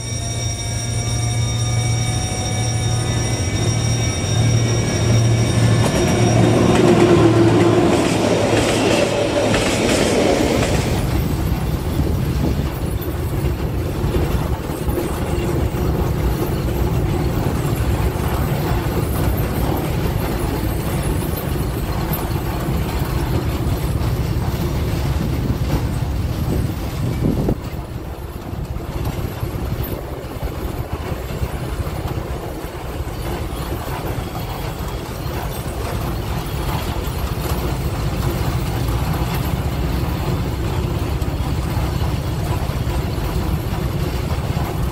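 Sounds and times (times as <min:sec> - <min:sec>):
freight wagons rumbling on rails: 0:00.0 - 0:44.9
locomotive passing: 0:00.0 - 0:44.9.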